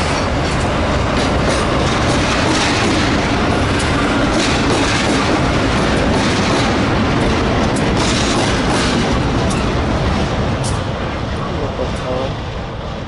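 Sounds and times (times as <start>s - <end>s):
wheels clicking on rails: 0.0s - 12.1s.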